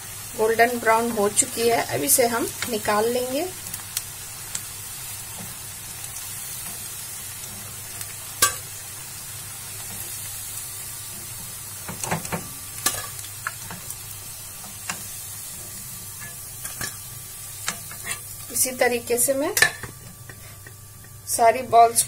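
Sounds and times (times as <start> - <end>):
oil sizzling: 0.0 - 22.0.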